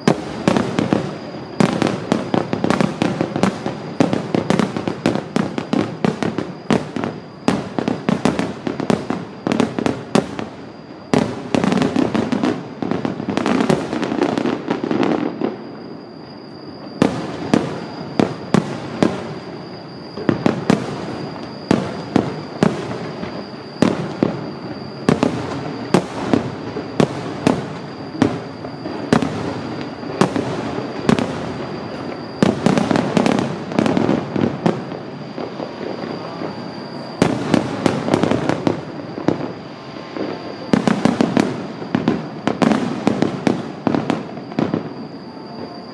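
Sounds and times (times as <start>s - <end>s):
firework crackle: 0.0s - 45.9s.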